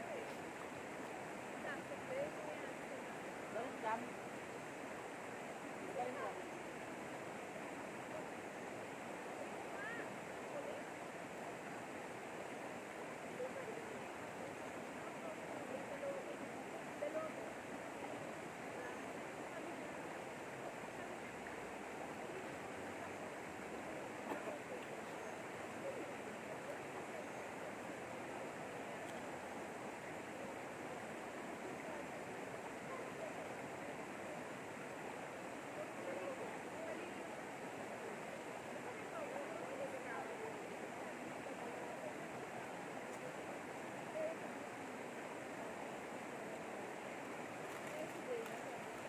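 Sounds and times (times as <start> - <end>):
river flowing over stones: 0.0 - 49.0.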